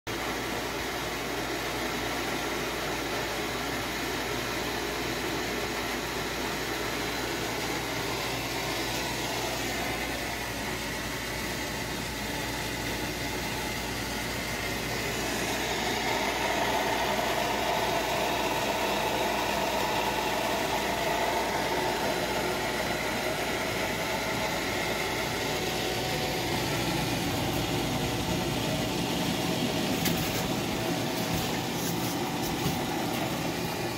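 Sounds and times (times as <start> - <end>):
electric pump humming: 0.1 - 33.9.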